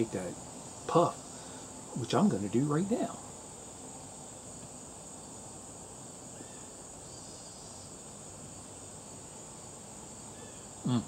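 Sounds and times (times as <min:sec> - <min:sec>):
faint background noise: 0:00.0 - 0:11.0
high-pitched insect chorus: 0:00.0 - 0:11.0.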